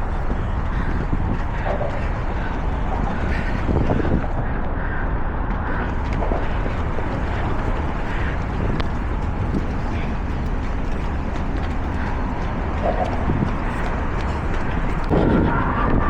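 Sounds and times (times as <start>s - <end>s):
steady low rumble: 0.0s - 16.0s
wind buffeting microphone: 0.0s - 16.0s.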